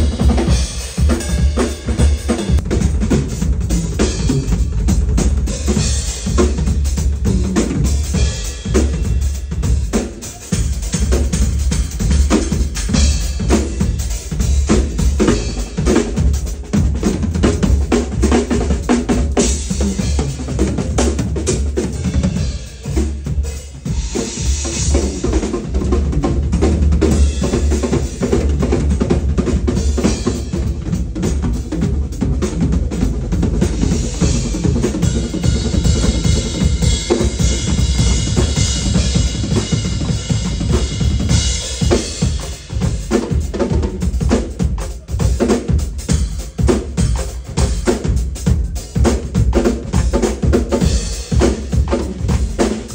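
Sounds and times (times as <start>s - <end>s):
snare and tom fills: 0.0s - 52.9s.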